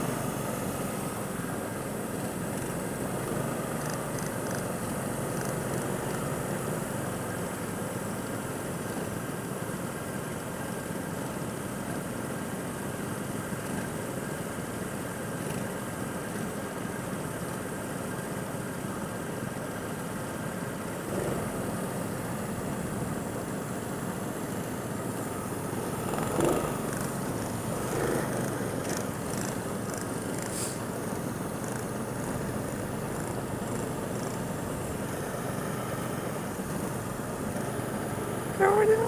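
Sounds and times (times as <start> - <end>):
go-kart engine running: 0.0 - 39.0.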